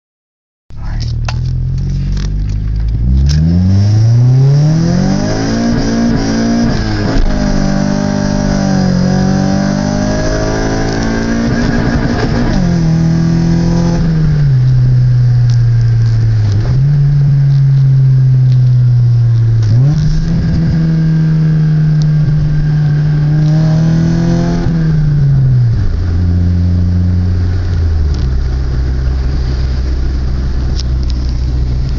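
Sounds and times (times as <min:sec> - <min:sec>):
car engine revving: 0:00.7 - 0:31.9.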